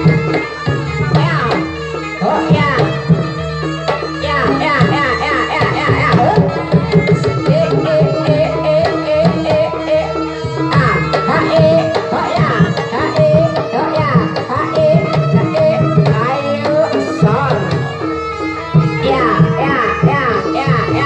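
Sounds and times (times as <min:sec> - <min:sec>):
fast hand drumming: 0:00.0 - 0:21.0.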